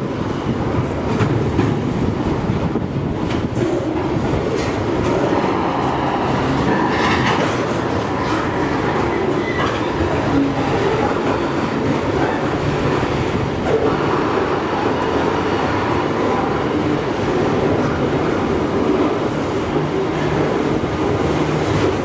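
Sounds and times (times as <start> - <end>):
freight train wheels rolling: 0.0 - 22.0.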